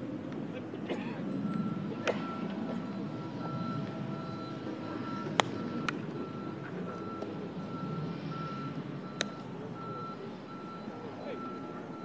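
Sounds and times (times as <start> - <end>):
background murmur: 0.0 - 12.0
reversing beeper: 1.2 - 12.0.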